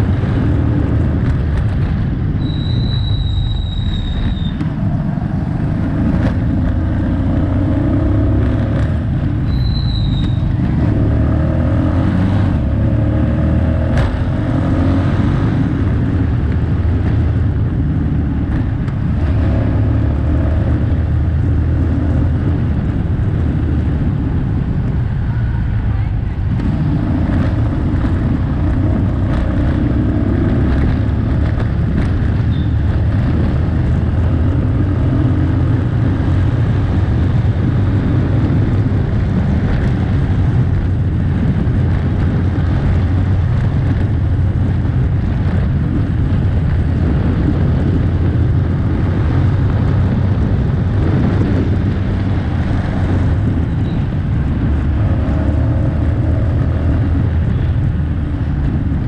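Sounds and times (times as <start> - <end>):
motor vehicle rumble: 0.0 - 59.0
wind buffeting microphone: 3.4 - 59.0.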